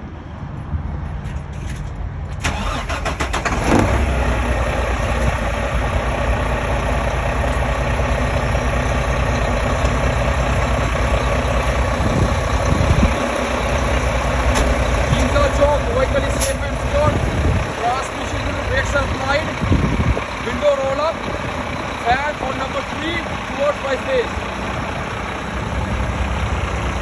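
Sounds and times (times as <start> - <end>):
truck engine starting and idling: 1.6 - 27.0.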